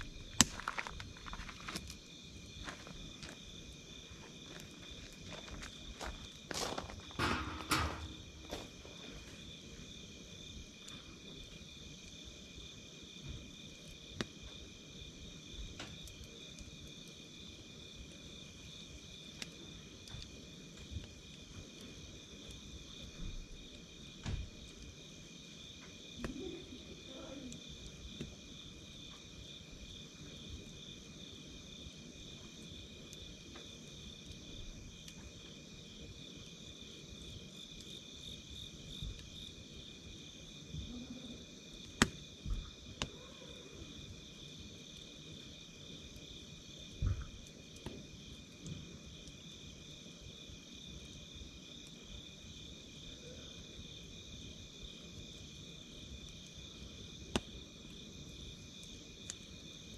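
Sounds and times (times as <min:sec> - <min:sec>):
campfire crackling and popping: 0:00.0 - 0:53.1, 0:53.7 - 0:59.9
insects trilling: 0:00.0 - 0:59.9.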